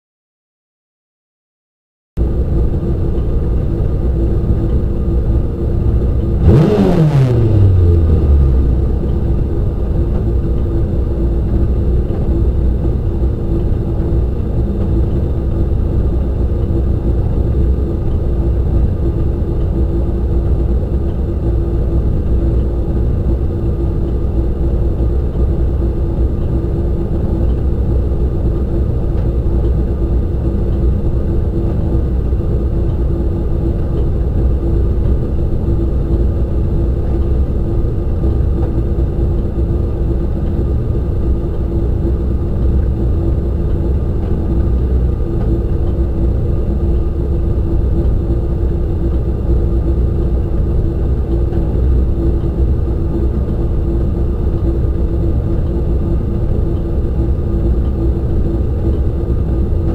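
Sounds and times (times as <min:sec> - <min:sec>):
engine throttle blip: 0:02.2 - 0:59.9
race car engine idling: 0:02.2 - 0:59.9.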